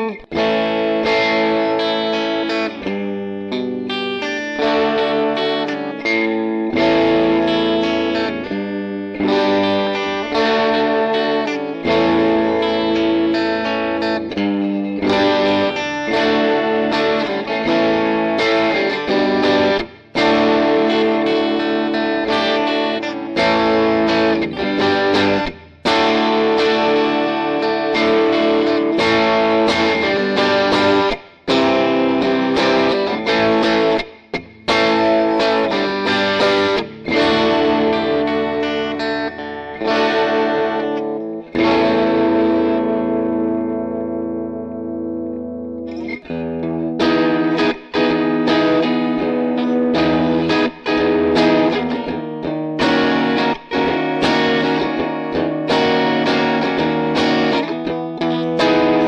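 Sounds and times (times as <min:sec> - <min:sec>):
electric guitar chords: 0:00.0 - 0:59.0.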